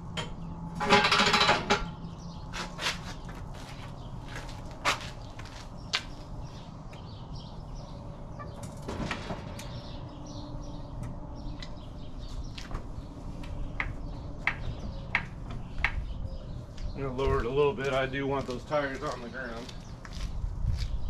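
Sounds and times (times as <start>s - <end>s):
small birds chirping: 1.9s - 21.0s.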